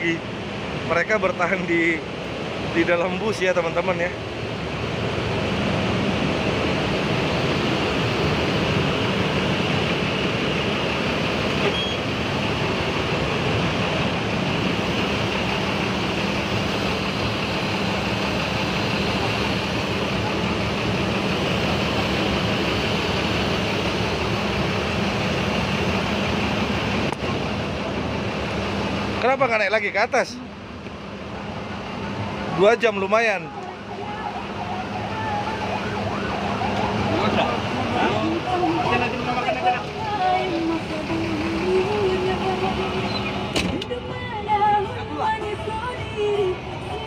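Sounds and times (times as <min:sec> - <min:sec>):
ship engines droning: 0:00.0 - 0:47.0.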